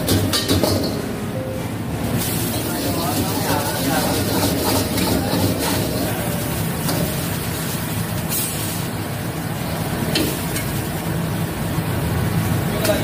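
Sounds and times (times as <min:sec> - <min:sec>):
food sizzling in a wok: 0:02.2 - 0:12.7
gas burner running: 0:02.2 - 0:13.0.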